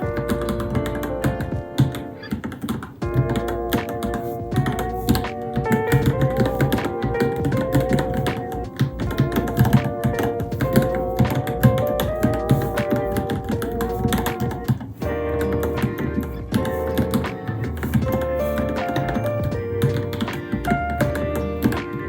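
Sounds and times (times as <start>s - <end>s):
background music with melody: 0.0s - 22.0s
mechanical keyboard typing: 0.0s - 22.0s.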